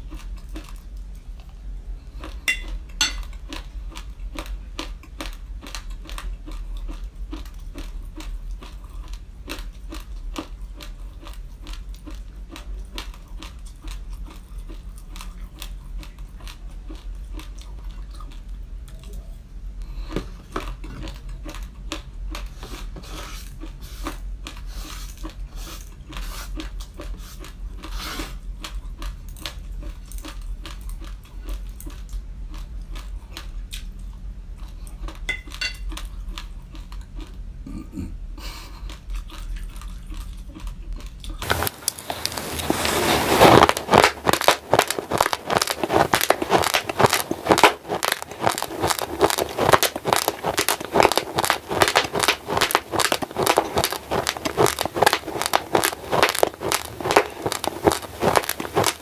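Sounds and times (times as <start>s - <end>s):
chewing crisp rice grains: 0.0s - 37.4s, 38.6s - 59.0s.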